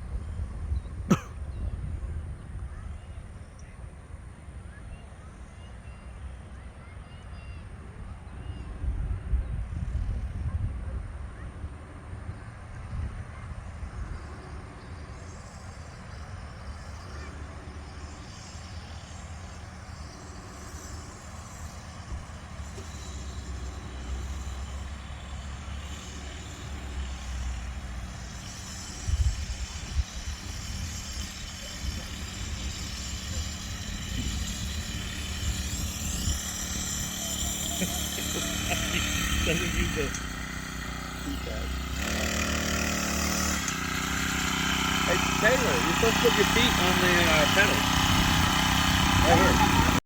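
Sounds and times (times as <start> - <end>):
mini bike engine running: 0.0 - 50.0.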